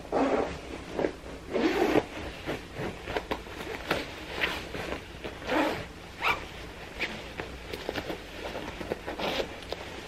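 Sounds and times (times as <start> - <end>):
nylon jacket rustling: 0.0 - 10.0.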